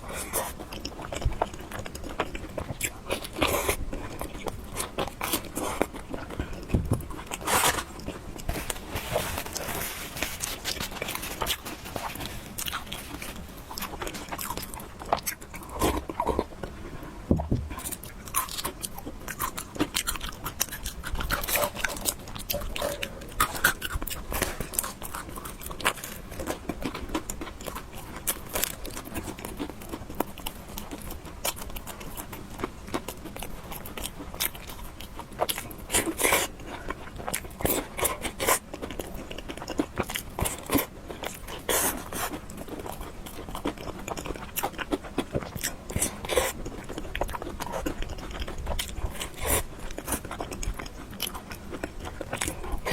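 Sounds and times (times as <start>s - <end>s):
person chewing noodles: 0.0s - 52.9s.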